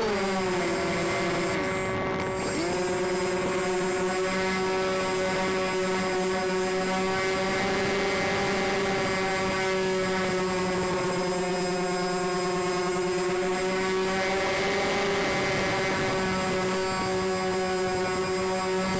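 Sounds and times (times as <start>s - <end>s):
model plane motors droning: 0.0s - 18.9s.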